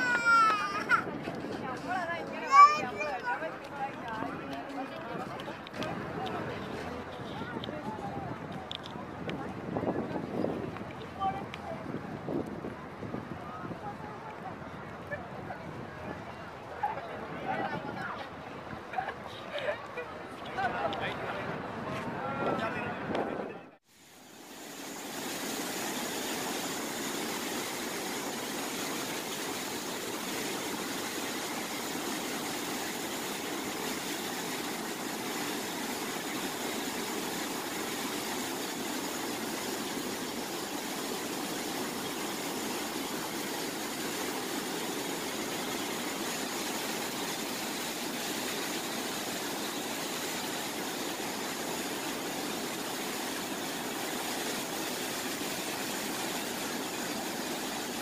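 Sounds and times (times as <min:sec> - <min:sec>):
water falling into canal: 0:00.0 - 0:20.1, 0:23.8 - 0:58.0.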